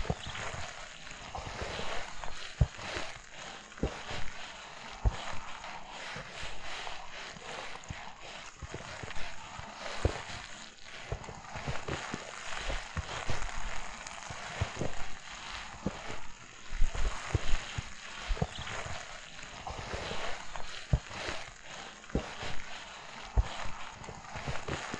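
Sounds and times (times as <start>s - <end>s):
footsteps crunching through snow: 0.0s - 24.9s.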